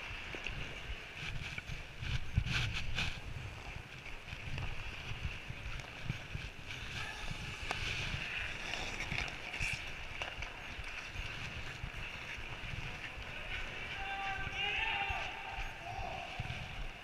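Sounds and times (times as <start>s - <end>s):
ice skates scraping and gliding: 0.0s - 17.0s
wind rumble on microphone: 0.0s - 17.0s.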